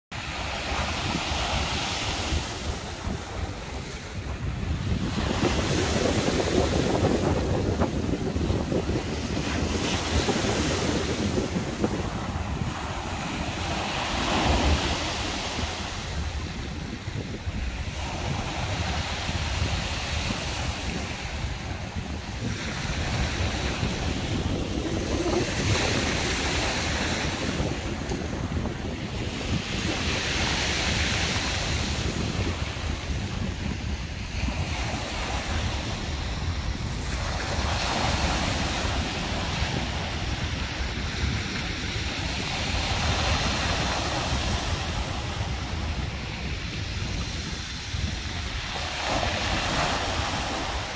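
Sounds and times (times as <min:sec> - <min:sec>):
wind rumbling on microphone: 0:00.1 - 0:50.9
waves washing over gravel shore: 0:00.4 - 0:50.9.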